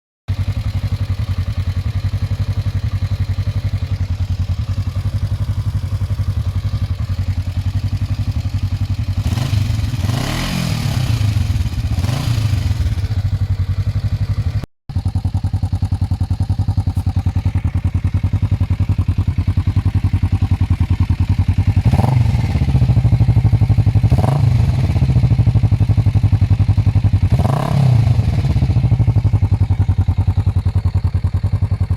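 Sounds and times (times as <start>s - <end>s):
motorcycle engine idling and revving: 0.3s - 31.9s.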